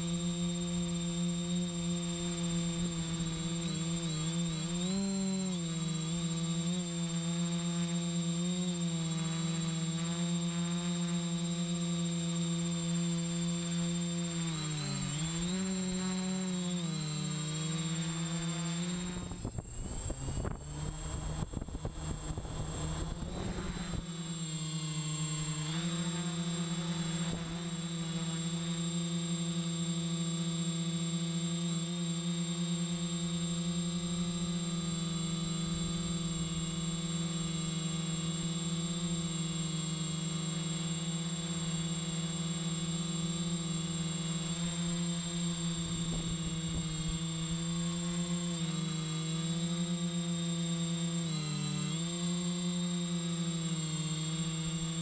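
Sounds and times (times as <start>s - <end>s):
drone propeller hum: 0.0s - 55.0s.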